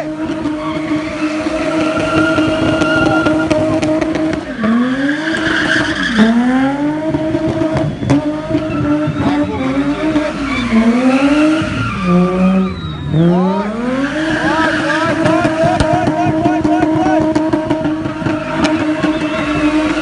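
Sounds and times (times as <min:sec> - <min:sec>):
car engine revving: 0:00.0 - 0:20.0
tyres squealing: 0:00.3 - 0:06.4, 0:08.4 - 0:20.0.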